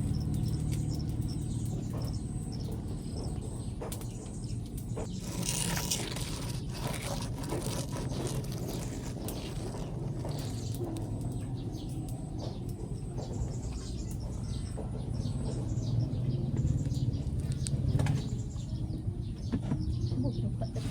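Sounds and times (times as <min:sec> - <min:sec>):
birds chirping: 0:00.0 - 0:20.9
steady low hum: 0:00.0 - 0:20.9.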